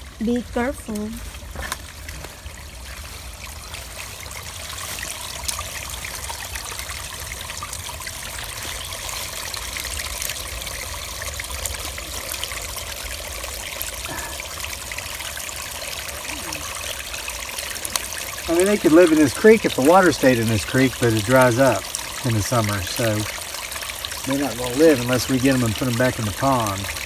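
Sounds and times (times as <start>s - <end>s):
creek running over rocks: 0.0s - 27.0s.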